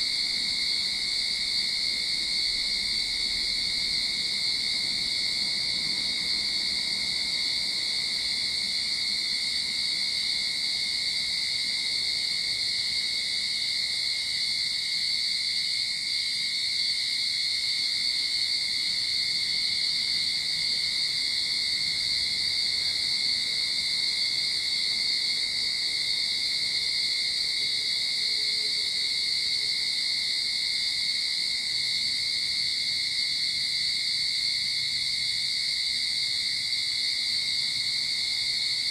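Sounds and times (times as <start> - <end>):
cicadas singing: 0.0 - 38.9.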